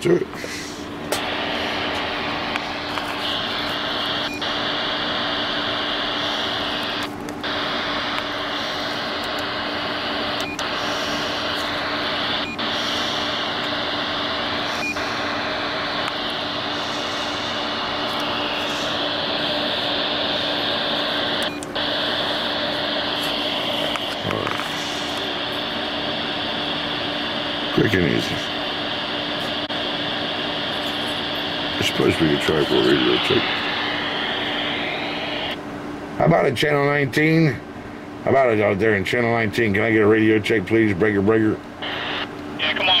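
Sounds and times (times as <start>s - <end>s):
radio speaker hiss: 0.0s - 35.6s, 38.3s - 43.0s.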